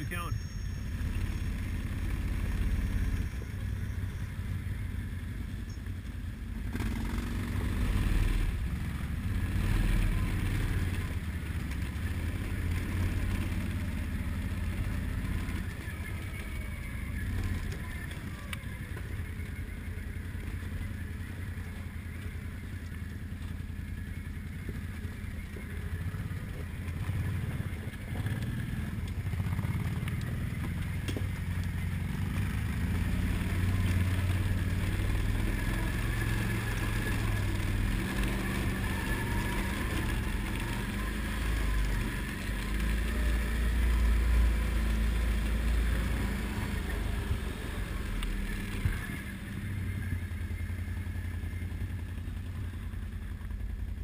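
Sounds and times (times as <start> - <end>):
quad engine low drone: 0.0 - 54.0.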